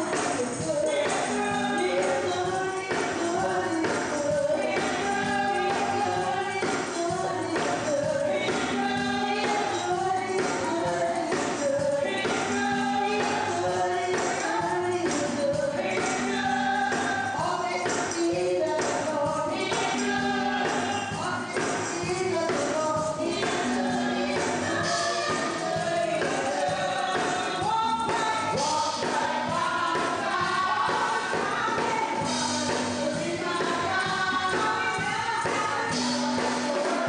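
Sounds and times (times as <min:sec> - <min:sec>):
choir singing gospel: 0:00.0 - 0:37.0
tambourine shaken and struck: 0:00.0 - 0:37.0.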